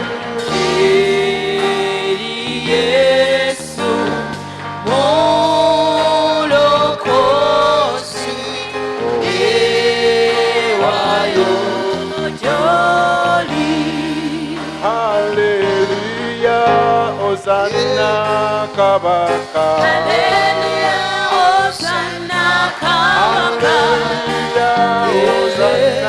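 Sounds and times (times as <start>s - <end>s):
instrumental backing: 0.0s - 26.0s
voices singing gospel: 0.0s - 26.0s.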